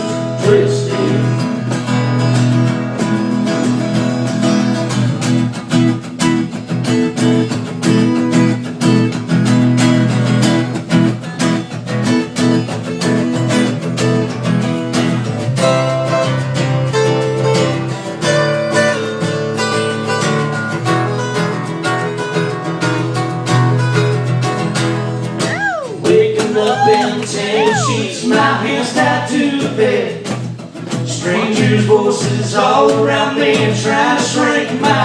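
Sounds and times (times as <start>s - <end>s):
acoustic guitar strumming chords: 0.0s - 35.0s.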